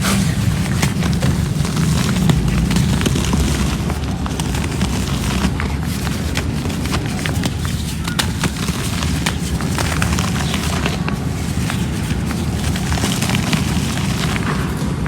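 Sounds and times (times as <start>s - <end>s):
cement crumbling and crunching: 0.0s - 15.0s
heavy low rumble: 0.0s - 15.0s.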